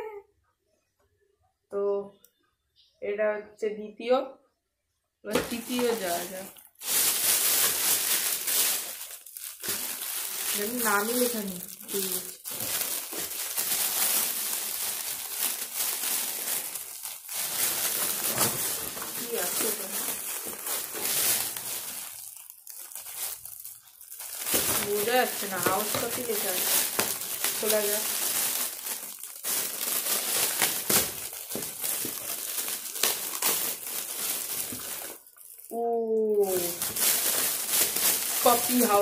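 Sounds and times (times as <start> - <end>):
wrapping paper crinkling: 5.3 - 39.0.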